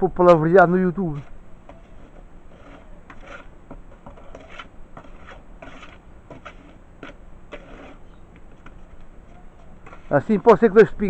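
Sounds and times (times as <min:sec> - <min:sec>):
trowel scraping wet mortar: 0:01.2 - 0:10.8.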